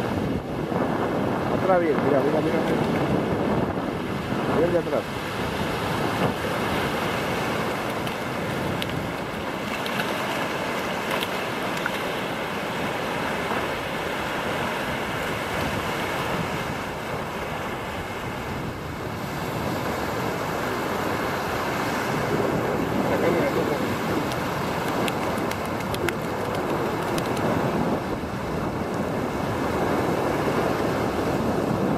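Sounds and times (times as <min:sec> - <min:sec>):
surf washing in: 0:00.0 - 0:31.9
wind on microphone: 0:00.0 - 0:31.9.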